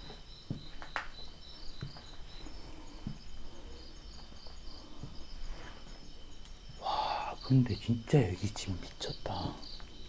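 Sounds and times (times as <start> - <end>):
night insects chirping: 0.0 - 10.0.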